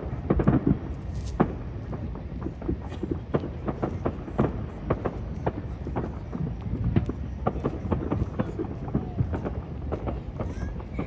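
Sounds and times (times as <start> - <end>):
distant fireworks bangs and pops: 0.0 - 11.0.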